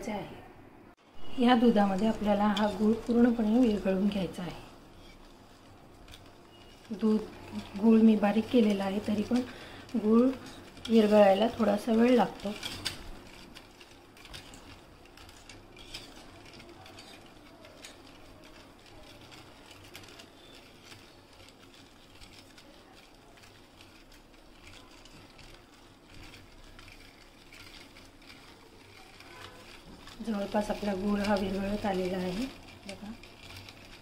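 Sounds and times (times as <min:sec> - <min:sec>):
wire whisk scraping metal bowl: 0:01.4 - 0:34.0.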